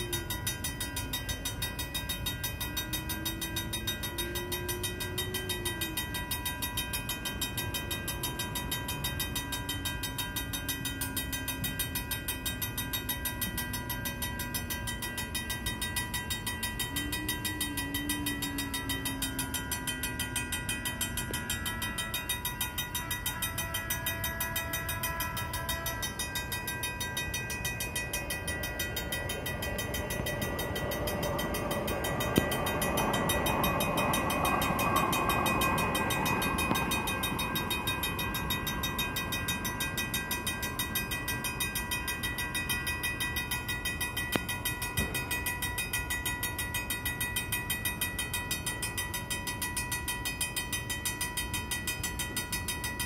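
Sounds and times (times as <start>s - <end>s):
railroad crossing bell ringing: 0.0s - 53.0s
train rumble: 0.0s - 53.0s.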